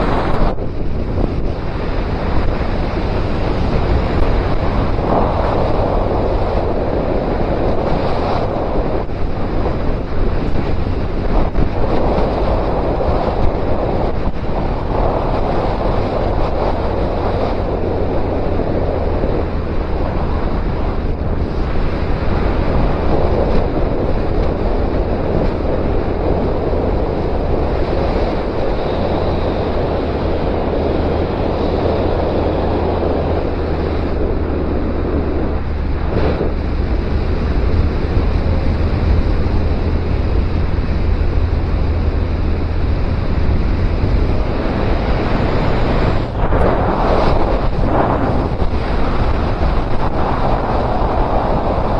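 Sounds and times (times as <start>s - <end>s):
motorcycle engine droning: 0.0s - 51.9s
wind rushing over microphone: 0.0s - 51.9s.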